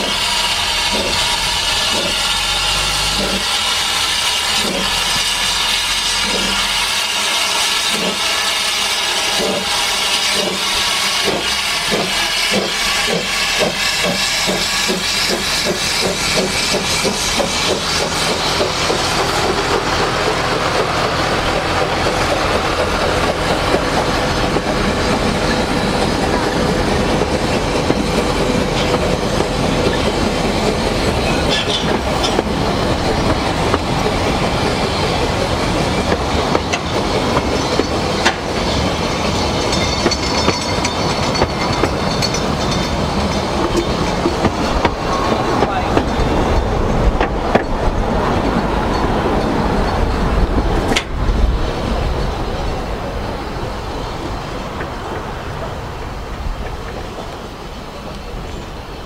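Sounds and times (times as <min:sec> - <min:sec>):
steam hissing: 0:00.0 - 0:59.0
steam locomotive exhaust beats: 0:00.0 - 0:59.0.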